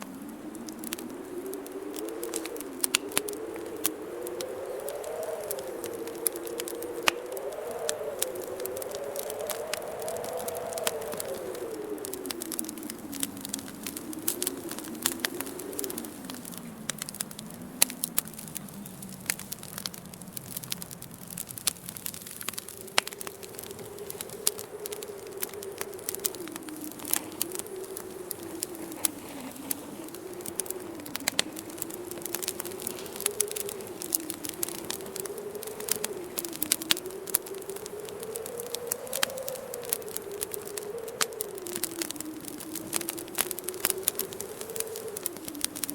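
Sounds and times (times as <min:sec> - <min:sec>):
low howling wind: 0:00.0 - 0:45.9
wood fire crackling and popping: 0:00.0 - 0:45.9.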